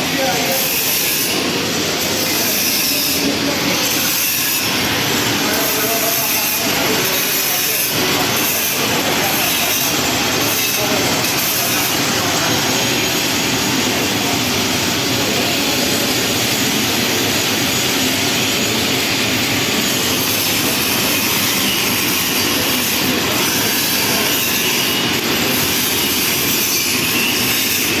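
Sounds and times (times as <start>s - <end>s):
arc welding hiss and crackle: 0.0s - 28.0s.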